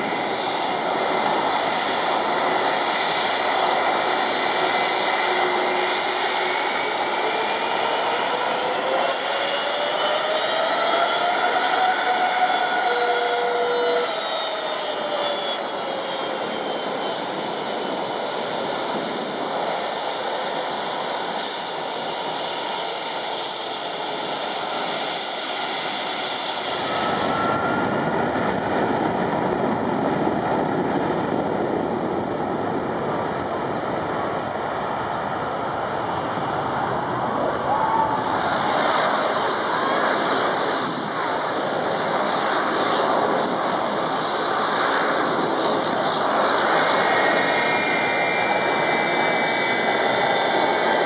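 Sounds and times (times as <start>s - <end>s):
deep rumble of jet blast: 0.0s - 51.0s
jet engines whining: 0.0s - 51.0s.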